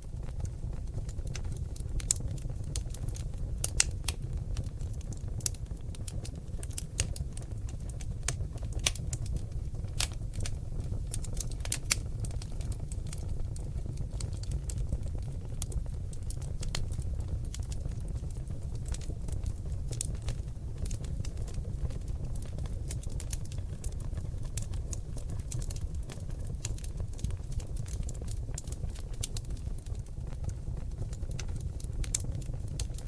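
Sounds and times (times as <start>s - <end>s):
logs crackling in fireplace: 0.0s - 33.0s
low rumble of flames: 0.0s - 33.0s.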